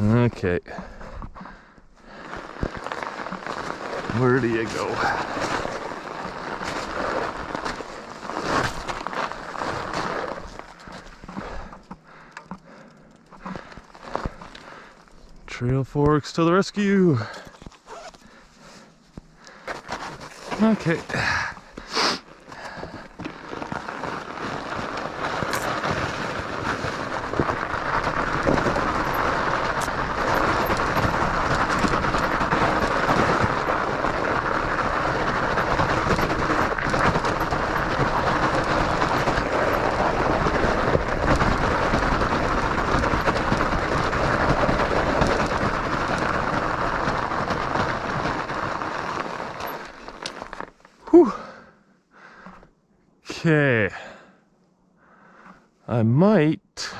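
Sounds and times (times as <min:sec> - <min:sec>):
bike tires rattling on icy trail: 0:00.0 - 0:56.1.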